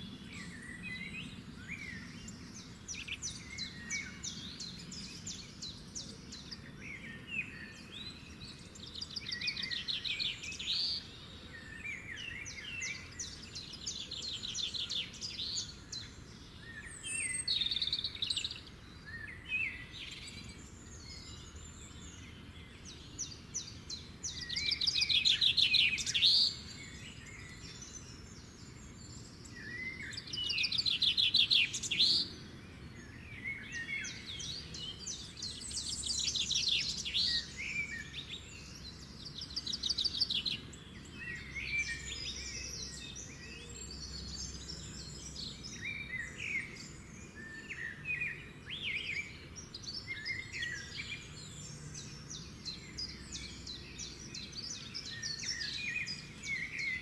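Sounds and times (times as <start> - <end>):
birds singing and chirping: 0.0 - 57.0.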